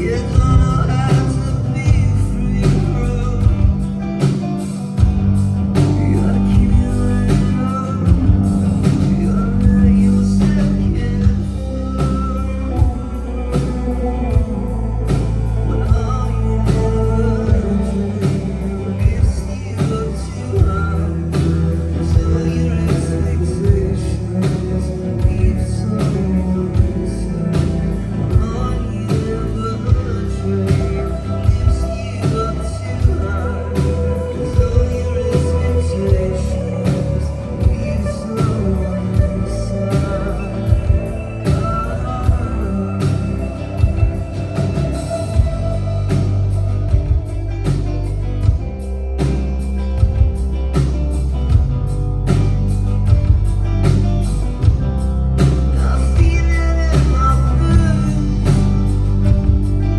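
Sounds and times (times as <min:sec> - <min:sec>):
drum kit beat: 0:00.0 - 0:24.0, 0:31.0 - 0:59.9
person singing: 0:00.0 - 0:49.4, 0:52.3 - 0:59.9
heavy bass and guitar: 0:00.0 - 0:59.9.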